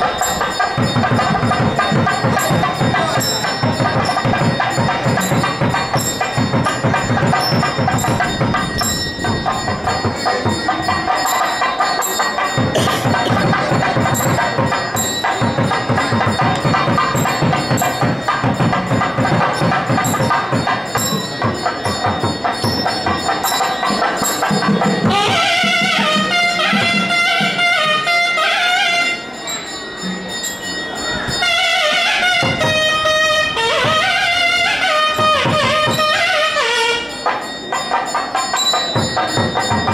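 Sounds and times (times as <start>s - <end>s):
drumming with metallic beat: 0.0s - 39.9s
light percussion: 0.0s - 39.9s
reed wind instrument melody: 0.0s - 39.9s.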